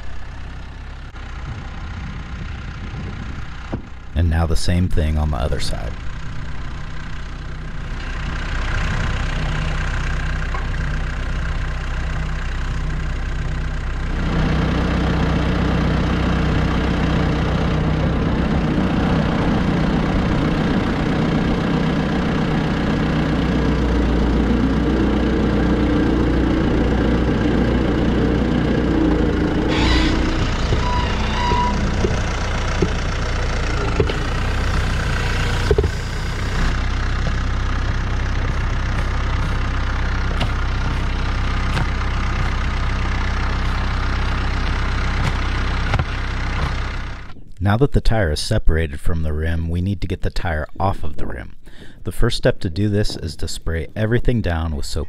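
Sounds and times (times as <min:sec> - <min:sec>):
tractor engine running: 0:00.0 - 0:47.6.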